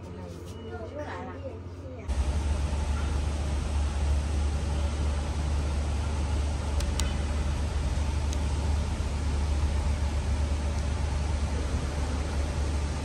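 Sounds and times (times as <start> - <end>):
low traffic rumble: 2.1 - 13.0.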